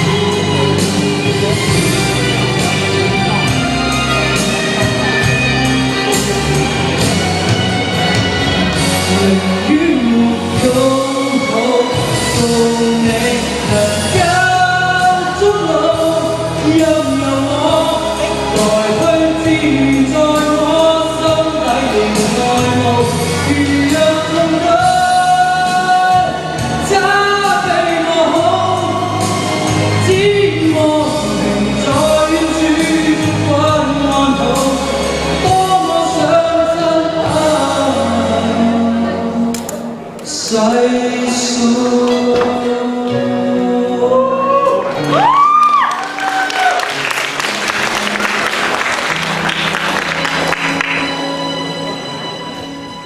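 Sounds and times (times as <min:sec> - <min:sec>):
young man singing: 0:00.0 - 0:49.3
musical accompaniment: 0:00.0 - 0:53.0.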